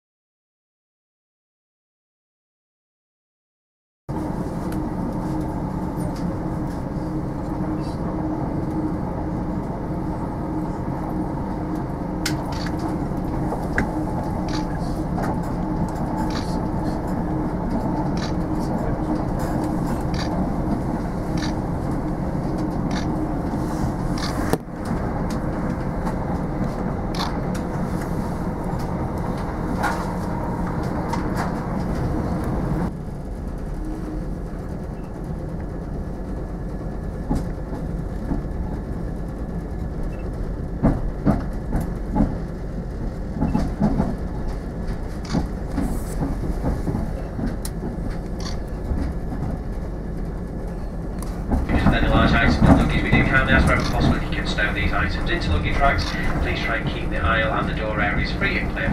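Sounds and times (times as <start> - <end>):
train running rumble and engine hum: 4.1 - 58.9.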